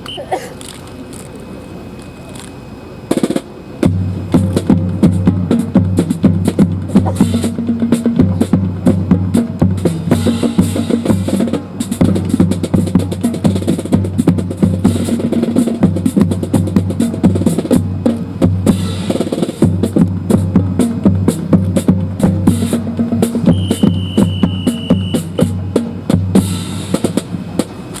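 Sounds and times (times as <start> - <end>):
heavy drums and percussion music: 3.1 - 28.0.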